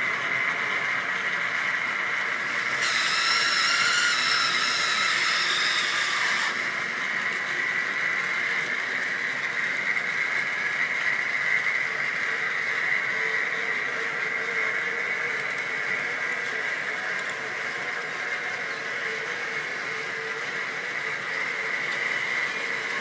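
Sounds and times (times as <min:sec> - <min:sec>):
model train high whine: 0:00.0 - 0:23.0.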